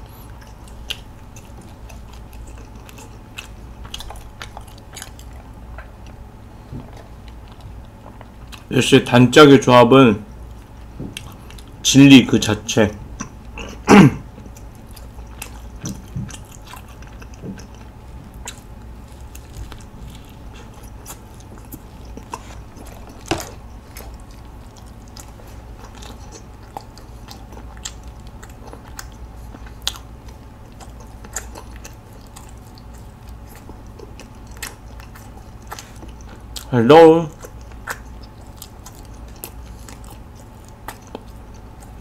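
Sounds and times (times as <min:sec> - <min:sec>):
person chewing: 0:00.0 - 0:08.7, 0:10.3 - 0:11.8, 0:13.1 - 0:42.0.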